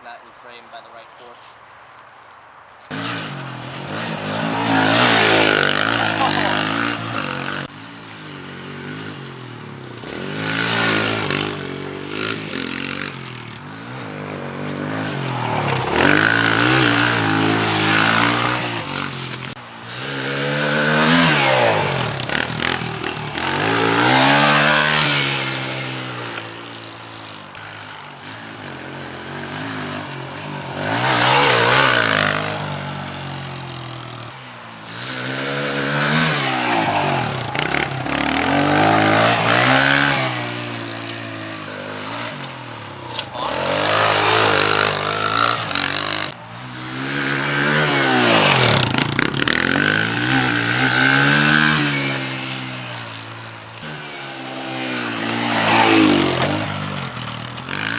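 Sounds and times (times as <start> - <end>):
pit bike engine revving: 2.9 - 57.9.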